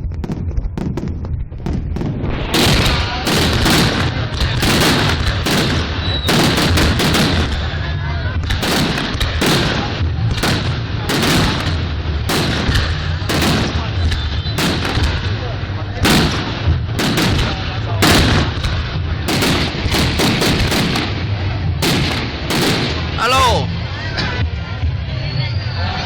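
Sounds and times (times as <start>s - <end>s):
fireworks bursting with loud bangs: 0.0s - 23.8s
continuous low rumble: 0.0s - 26.0s.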